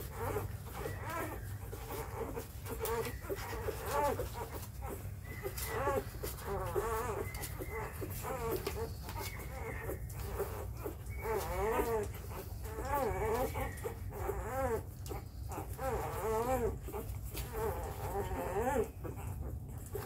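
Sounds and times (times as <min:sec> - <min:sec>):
puppies squeaking and whining: 0:00.0 - 0:20.0.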